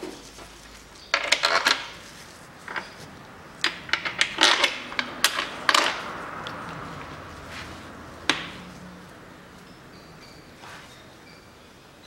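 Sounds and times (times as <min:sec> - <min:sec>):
engine parts clicking and clattering: 0:00.0 - 0:11.4.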